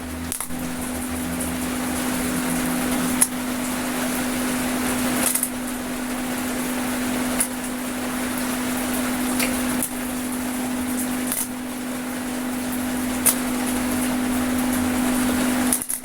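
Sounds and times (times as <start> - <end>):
welding machine humming: 0.0 - 16.0.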